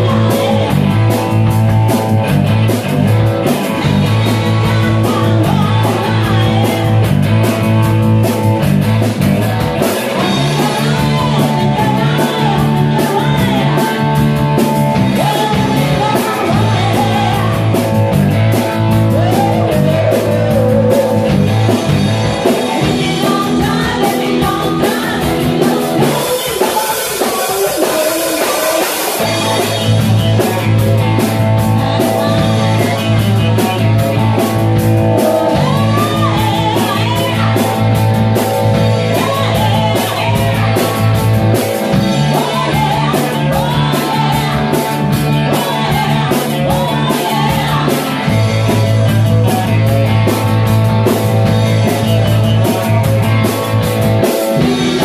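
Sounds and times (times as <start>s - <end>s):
woman singing: 0.0s - 2.1s, 3.4s - 8.7s, 9.7s - 53.6s
drum kit beat: 0.0s - 55.0s
electric bass: 0.0s - 55.0s
electric guitars: 0.0s - 55.0s.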